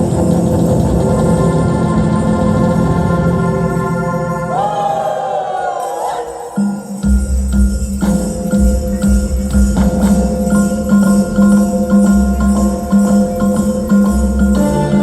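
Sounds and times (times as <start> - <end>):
dance music: 0.0 - 15.0
jingling bells: 0.0 - 15.0.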